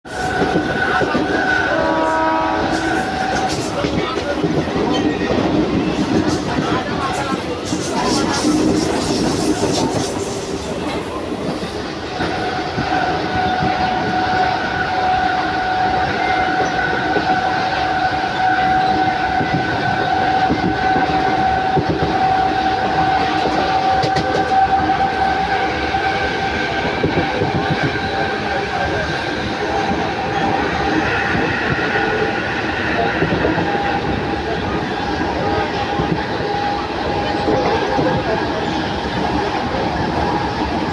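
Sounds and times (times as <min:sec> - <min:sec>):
electric train running on rails: 0:00.0 - 0:40.9.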